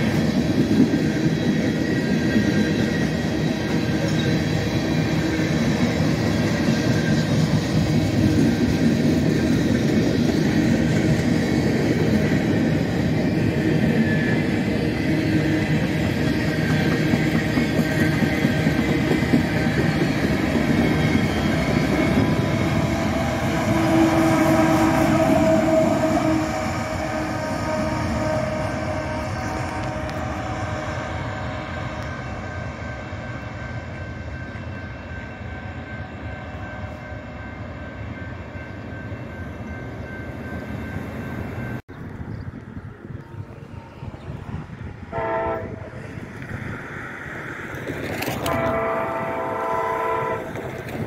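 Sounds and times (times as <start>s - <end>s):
freight train wheels rumbling: 0.0s - 51.0s
locomotive passing: 0.0s - 51.0s.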